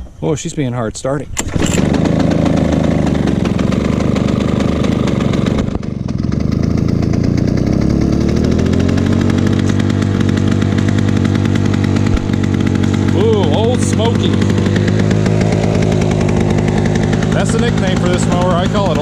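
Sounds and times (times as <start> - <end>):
mower engine running: 1.3 - 19.0.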